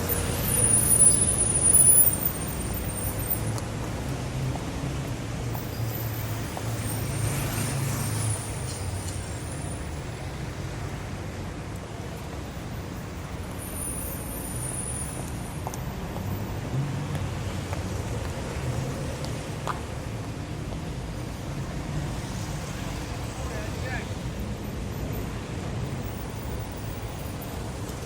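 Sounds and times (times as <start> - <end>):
passing cars: 0.0 - 28.0.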